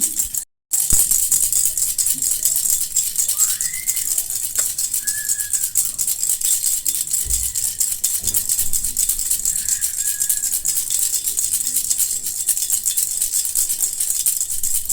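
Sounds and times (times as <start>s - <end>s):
baby rattle shaken: 0.0s - 14.9s.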